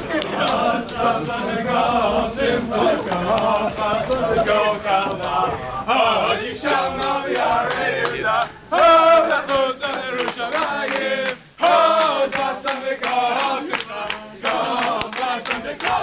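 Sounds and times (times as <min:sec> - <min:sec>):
men singing together: 0:00.0 - 0:16.0.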